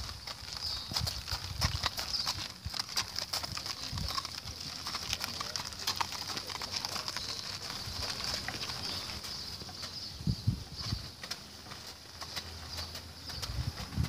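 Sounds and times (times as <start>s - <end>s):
cart wheels crunching on gravel: 0.0s - 14.0s
hooves clopping on gravel: 0.0s - 14.0s.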